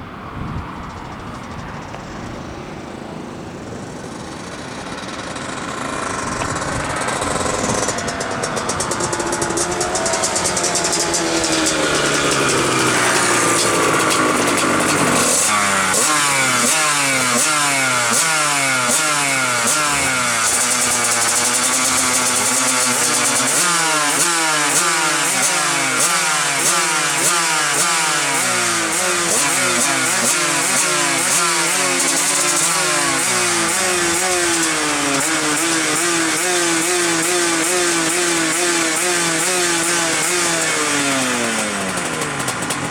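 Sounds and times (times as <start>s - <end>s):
two-stroke motorcycle engine revving: 0.9s - 42.9s.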